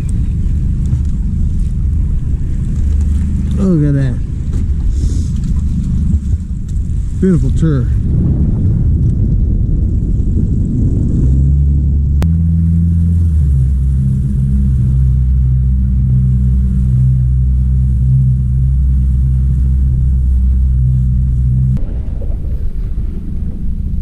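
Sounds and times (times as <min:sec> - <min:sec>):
outboard motor running: 0:00.0 - 0:21.8.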